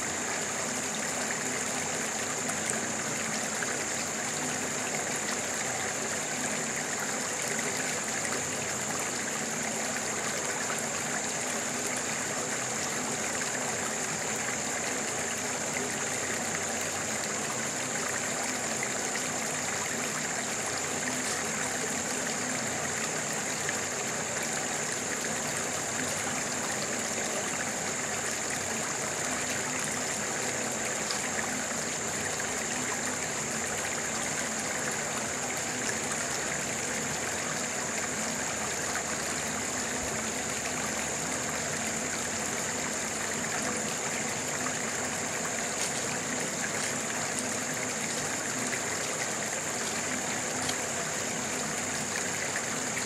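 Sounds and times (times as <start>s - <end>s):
stream water over rocks: 0.0s - 53.0s.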